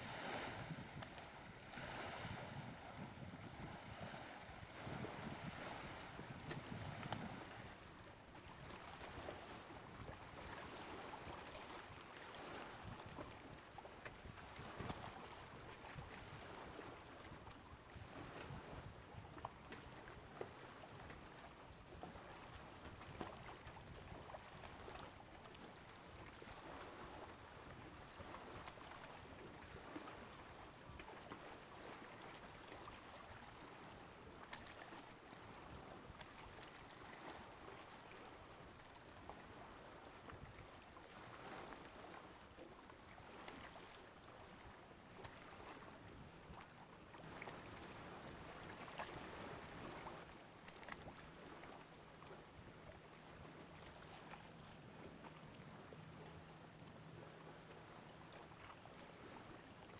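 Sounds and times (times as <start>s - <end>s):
lake water washing: 0.0s - 59.9s
wind: 0.0s - 59.9s.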